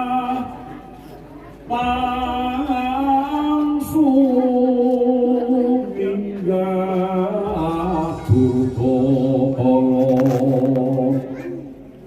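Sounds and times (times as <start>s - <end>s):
person singing chant-like melody: 1.7s - 11.6s.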